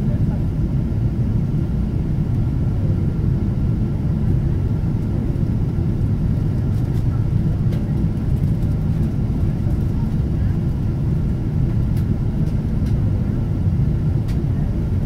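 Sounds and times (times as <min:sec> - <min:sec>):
airliner cabin drone: 0:00.0 - 0:15.0.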